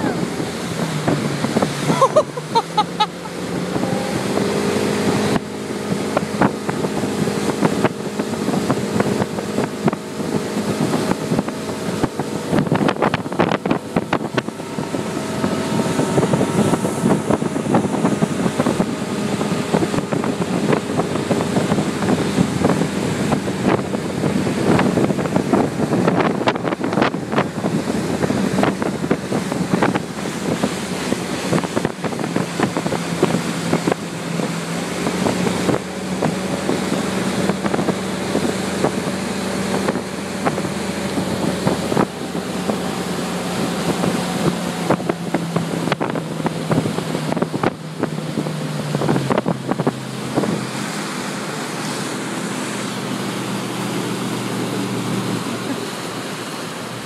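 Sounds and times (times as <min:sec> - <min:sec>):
motorboat engine running: 0:00.0 - 0:57.0
rush of wake and spray: 0:00.0 - 0:57.0
wind buffeting microphone: 0:00.0 - 0:57.0.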